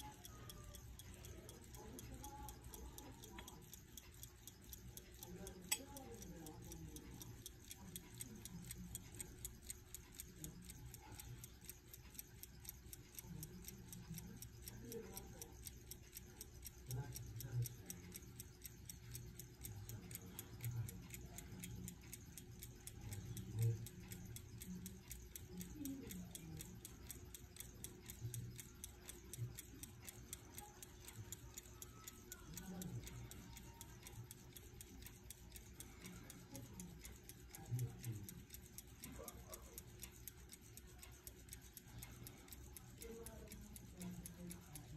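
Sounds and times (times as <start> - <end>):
pocket watch ticking: 0.0 - 44.9.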